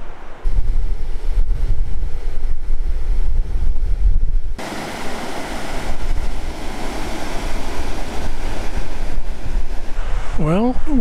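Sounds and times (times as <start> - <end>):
steady rushing hiss: 0.0 - 11.0
wind buffeting microphone: 0.0 - 11.0.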